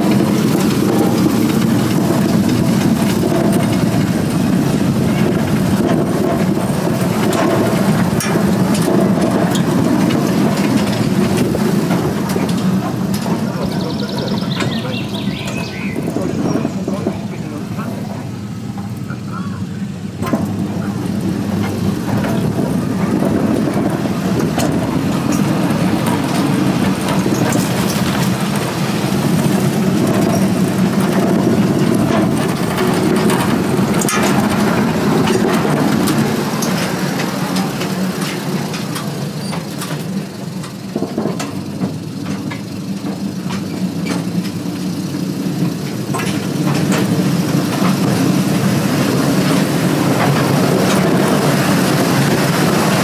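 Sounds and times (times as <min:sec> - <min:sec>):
miniature train rumbling: 0:00.0 - 0:53.0
wheels clicking on rails: 0:00.0 - 0:53.0.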